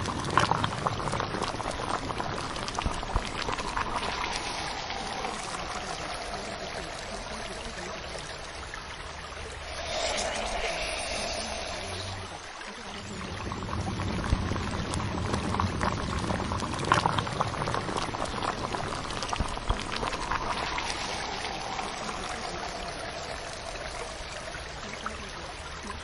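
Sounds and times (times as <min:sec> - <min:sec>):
small drips and crackles: 0:00.0 - 0:26.0
water bubbling and trickling: 0:00.0 - 0:26.0.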